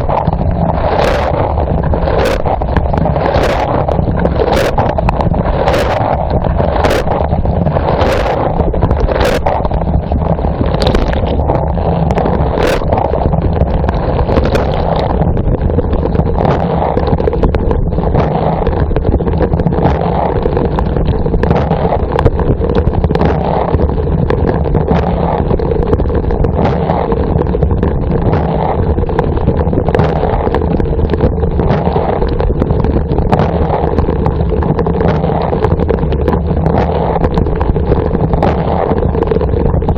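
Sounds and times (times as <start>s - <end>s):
sharp water hits: 0.0s - 39.9s.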